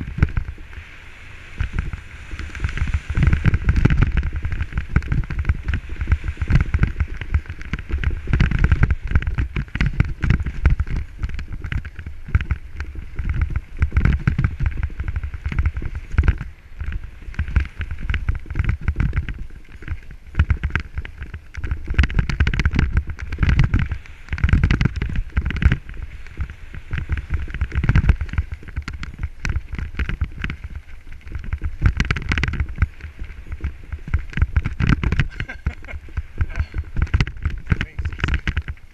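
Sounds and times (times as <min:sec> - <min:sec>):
bike rattling: 0:00.0 - 0:38.9
wind buffeting microphone: 0:00.0 - 0:38.9
tyres crunching over stones: 0:01.6 - 0:38.9.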